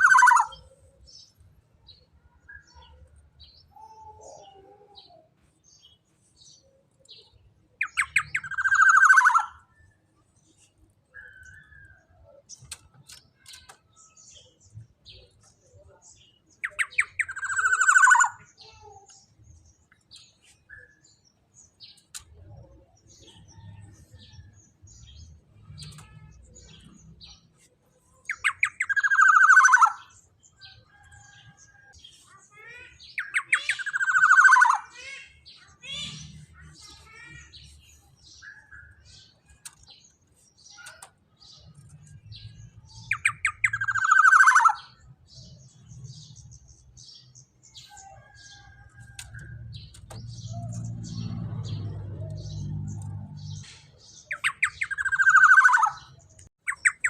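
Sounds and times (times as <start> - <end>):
soft bird chirps: 0.0 - 57.0.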